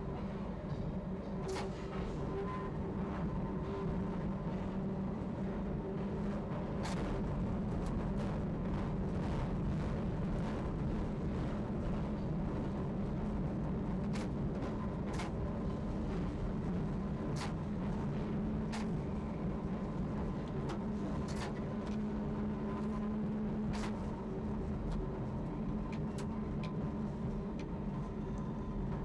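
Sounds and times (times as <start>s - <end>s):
faint steady whine: 0.0s - 29.0s
train low rumble: 0.0s - 29.0s.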